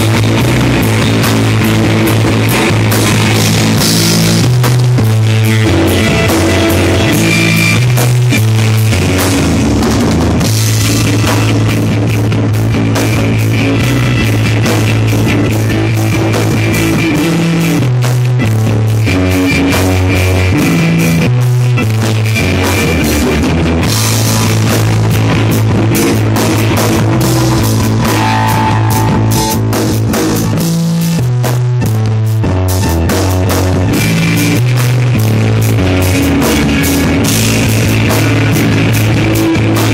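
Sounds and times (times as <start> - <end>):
bass line: 0.0 - 39.9
distorted guitar: 0.0 - 39.9
drum kit beat: 0.0 - 39.9
loud rock music: 0.0 - 39.9.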